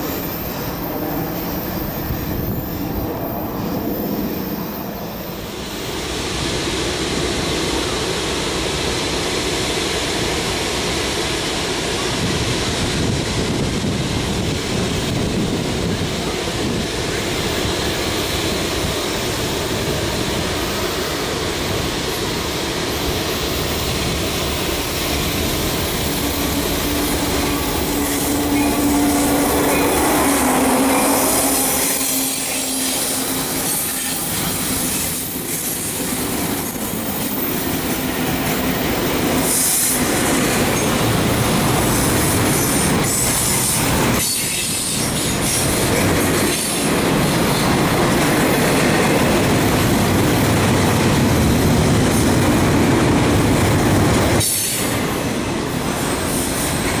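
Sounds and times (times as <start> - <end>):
diesel locomotive engine drone: 0.0 - 57.0
train wheel-on-rail noise: 0.0 - 57.0.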